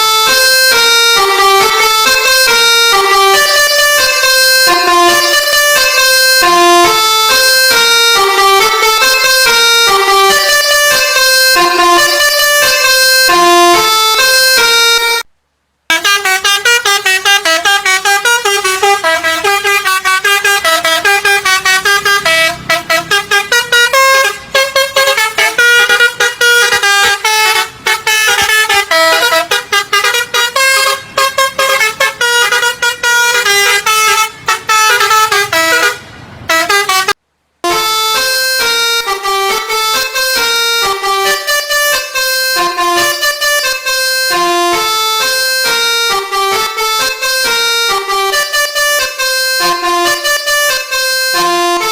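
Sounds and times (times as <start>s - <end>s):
bus musical horn playing a tune: 0.0s - 15.3s, 15.9s - 51.9s.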